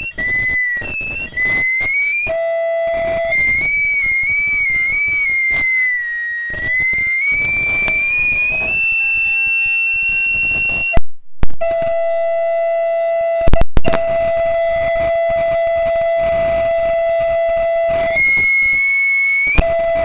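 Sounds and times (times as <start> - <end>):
audio feedback squeal: 0.0 - 20.0.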